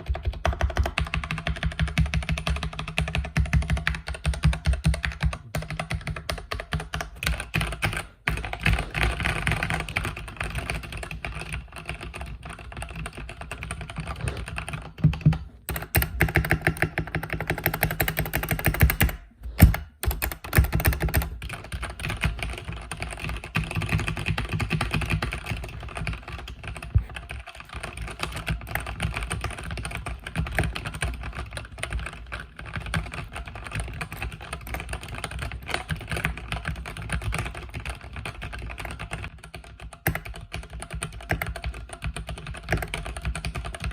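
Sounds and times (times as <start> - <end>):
mechanical keyboard typing: 0.0 - 43.9.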